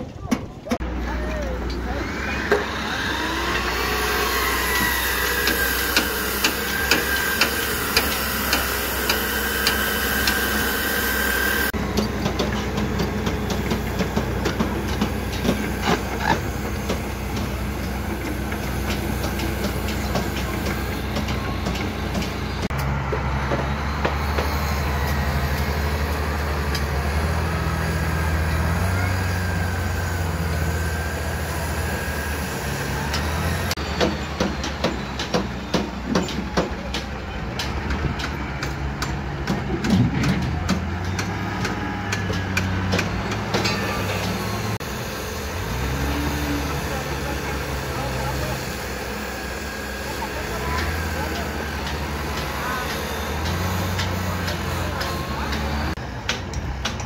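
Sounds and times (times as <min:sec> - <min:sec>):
diesel engine running: 0:00.0 - 0:57.0
chop saw whining: 0:00.8 - 0:39.3, 0:39.9 - 0:57.0.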